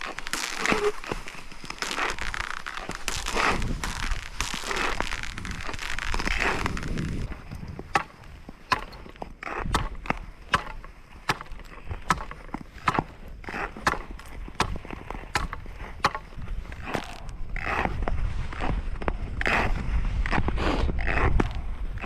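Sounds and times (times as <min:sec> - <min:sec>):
sharp clicks and knocks on ice: 0:00.0 - 0:22.0
skate blades scraping on ice: 0:00.0 - 0:22.0.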